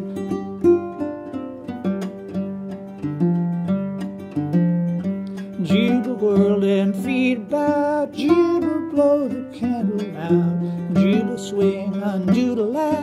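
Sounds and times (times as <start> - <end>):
clawhammer guitar playing: 0.0 - 13.0.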